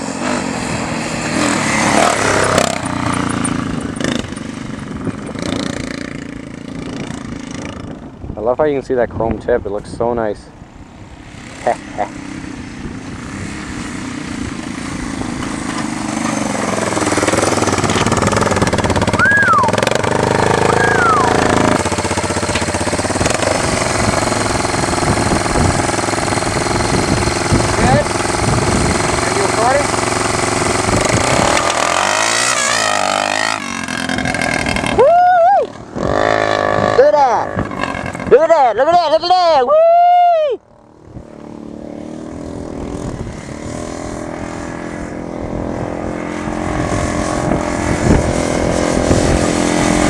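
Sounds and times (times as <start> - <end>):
quad engine with raspy exhaust: 0.0 - 50.0.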